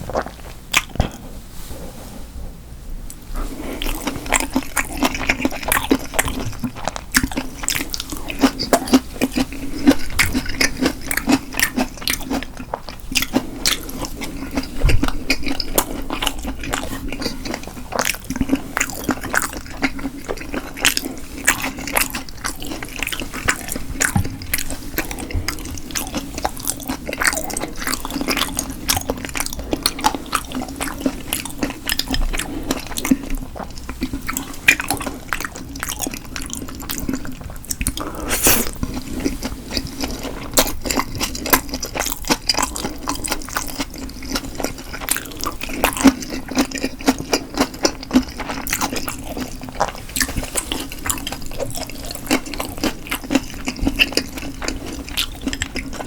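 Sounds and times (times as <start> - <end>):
chewing and biting food: 0.0 - 1.2, 3.4 - 56.0.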